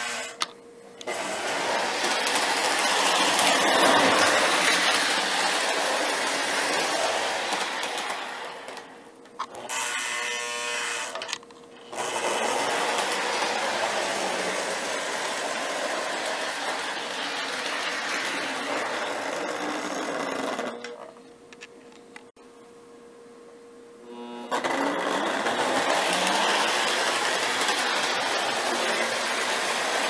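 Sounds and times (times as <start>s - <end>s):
model train motor whir: 0.0s - 20.9s, 24.5s - 30.0s.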